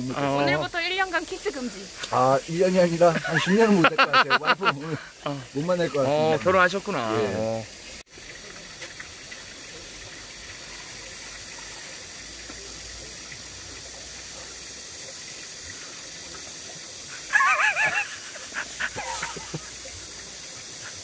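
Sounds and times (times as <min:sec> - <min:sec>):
shallow stream rushing: 0:00.0 - 0:21.0.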